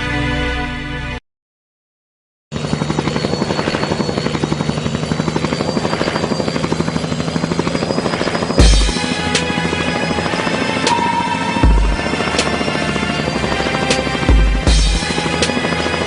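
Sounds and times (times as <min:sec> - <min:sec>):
helicopter rotors chopping: 0:02.5 - 0:16.0
high turbine whine: 0:02.5 - 0:16.0.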